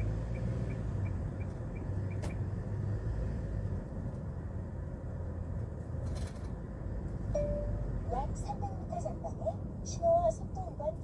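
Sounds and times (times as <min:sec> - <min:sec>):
truck engine and road hum: 0:00.0 - 0:11.0.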